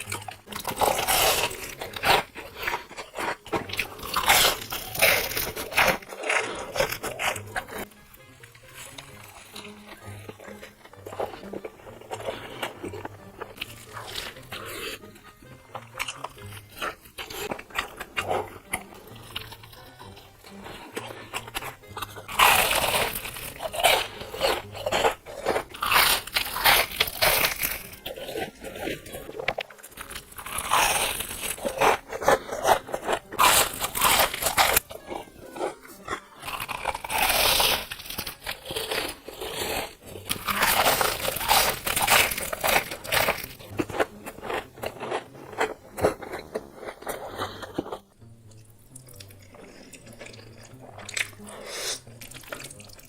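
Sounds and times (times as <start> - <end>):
crunchy bites and chewing: 0.0 - 53.0
music: 0.0 - 53.0.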